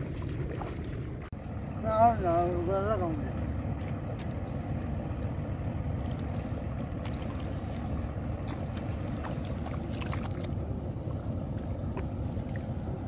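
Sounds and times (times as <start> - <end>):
small splashes and ticks: 0.0 - 13.0
steady low rumble: 0.0 - 13.0
water sloshing and dripping: 0.0 - 13.0.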